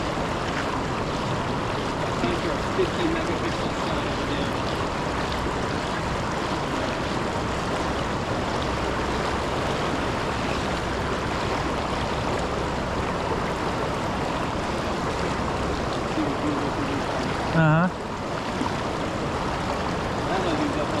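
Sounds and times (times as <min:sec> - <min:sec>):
waterfall roar: 0:00.0 - 0:21.0.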